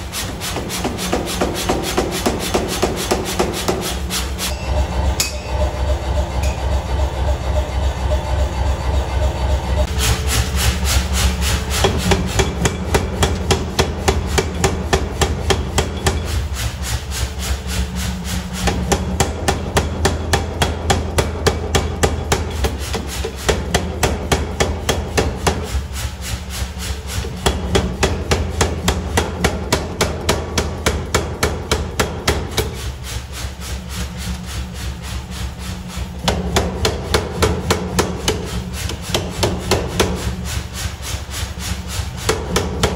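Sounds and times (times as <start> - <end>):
power hammer striking hot steel: 0.0 - 8.4, 9.4 - 42.9.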